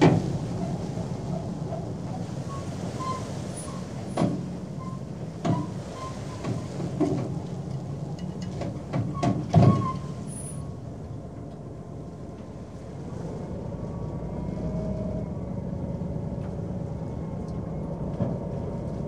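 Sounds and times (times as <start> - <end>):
low machinery rumble: 0.0 - 19.0.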